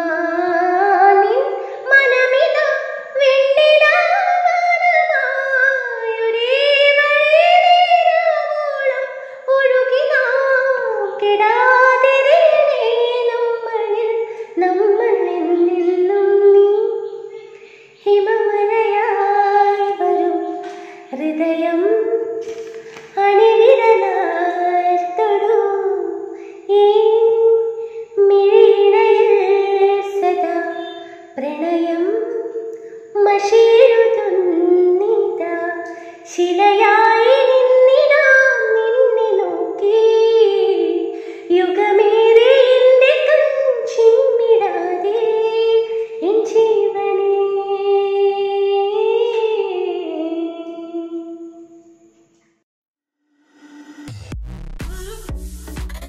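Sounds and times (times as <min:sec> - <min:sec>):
woman singing unaccompanied: 0:00.0 - 0:52.2.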